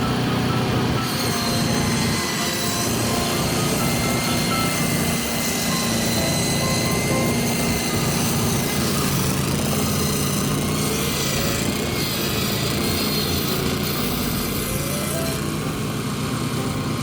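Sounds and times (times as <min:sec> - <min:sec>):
circular saw whine: 0:00.0 - 0:17.0
engine hum: 0:00.0 - 0:17.0.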